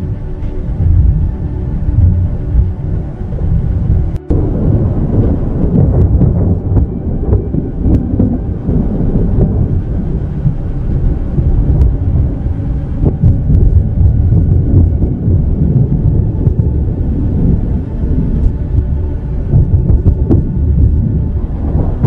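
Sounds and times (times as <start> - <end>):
thunder rumbling: 0.0 - 22.0.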